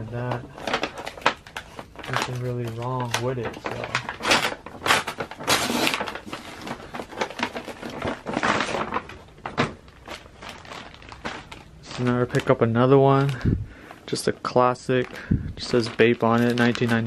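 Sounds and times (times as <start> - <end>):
paper and plastic tearing: 0.0 - 17.0
crinkles and clicks: 0.1 - 17.0.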